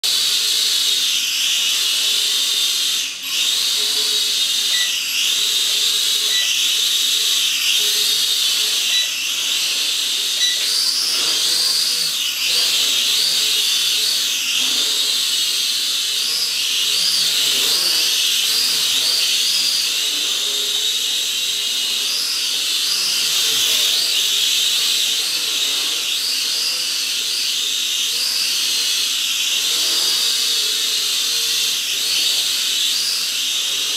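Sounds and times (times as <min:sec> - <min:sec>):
toy quadcopter propellers whining: 0:00.0 - 0:33.9.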